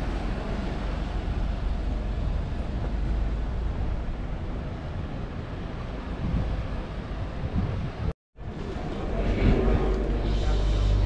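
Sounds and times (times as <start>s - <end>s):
traffic rumble: 0.0s - 11.0s
wind on microphone: 0.8s - 11.0s.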